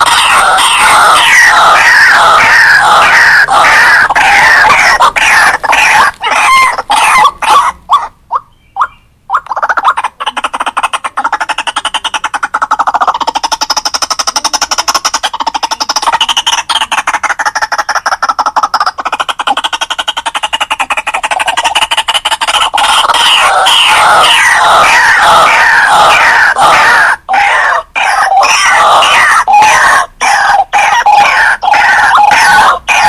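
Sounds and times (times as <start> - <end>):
rapid bird chatter: 0.0 - 33.0
waterhen croaking calls: 0.0 - 33.0.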